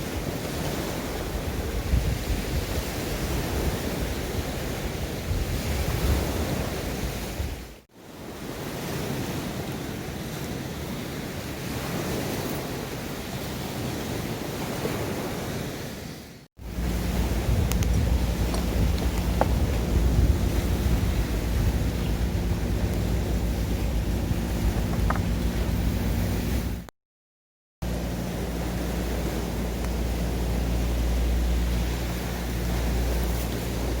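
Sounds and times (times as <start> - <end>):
wind on microphone: 0.0 - 9.8, 11.2 - 26.9, 27.8 - 34.0
sea waves washing on shore: 0.0 - 26.9, 27.8 - 34.0.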